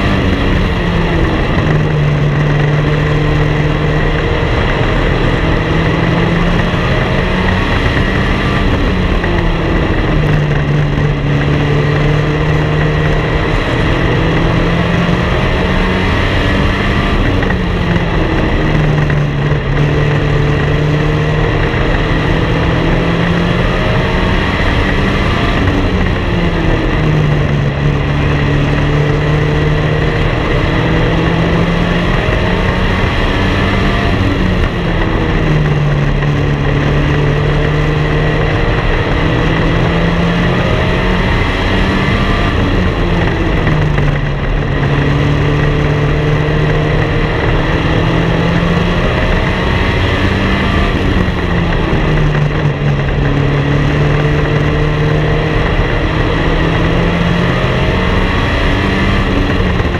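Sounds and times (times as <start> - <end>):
race car engine: 0.0 - 59.9
steady rush of noise: 0.0 - 59.9.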